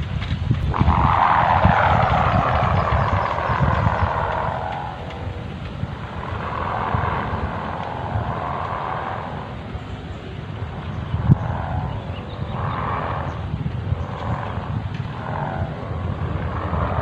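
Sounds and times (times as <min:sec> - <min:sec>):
kite hummer droning: 0:00.0 - 0:17.0
low wind rumble on microphone: 0:00.0 - 0:17.0.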